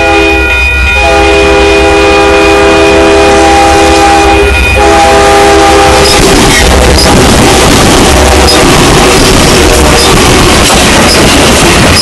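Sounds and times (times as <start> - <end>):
train air horn blowing: 0.0 - 10.7
train rumbling: 0.0 - 12.0.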